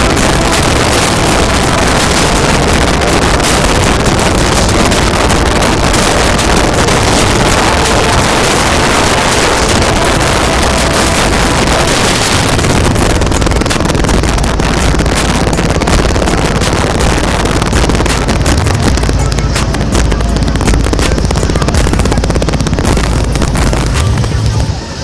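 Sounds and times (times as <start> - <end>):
motorbike ride rumble: 0.0 - 25.0
wind rush on microphone: 0.0 - 25.0.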